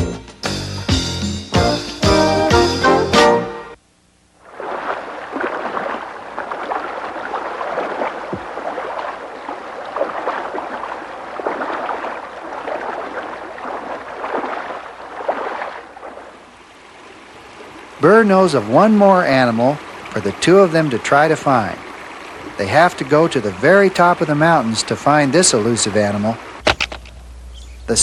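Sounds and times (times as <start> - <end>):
stream water rushing and gurgling: 4.4 - 28.0.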